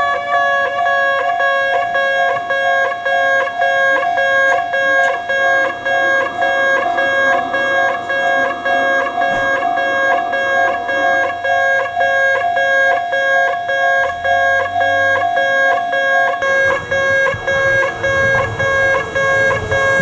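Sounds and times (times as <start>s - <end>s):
level-crossing warning bell ringing: 0.0s - 20.0s.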